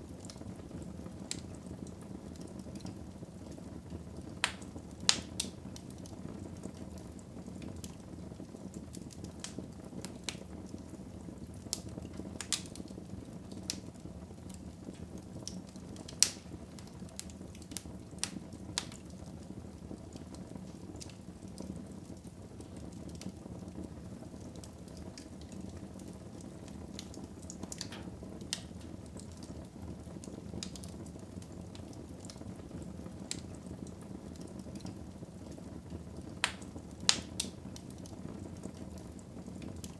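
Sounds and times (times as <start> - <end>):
burning logs crackling: 0.0 - 39.9.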